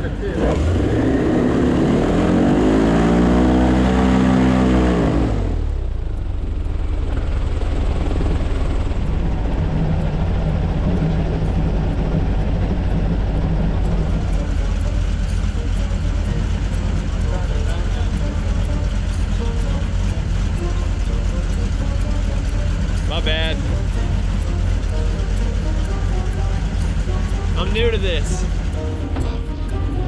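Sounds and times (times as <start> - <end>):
airboat engine revving: 0.0 - 30.0
boat motor droning: 0.0 - 30.0.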